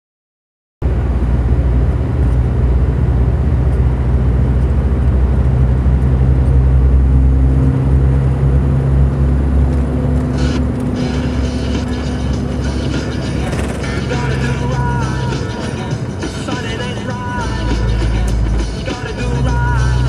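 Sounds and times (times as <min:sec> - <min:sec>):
truck engine droning: 0:00.8 - 0:20.0.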